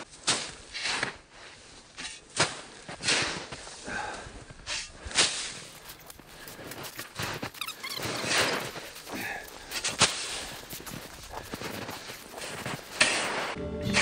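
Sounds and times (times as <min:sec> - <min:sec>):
snow shovel scraping and swishing: 0:00.0 - 0:14.0.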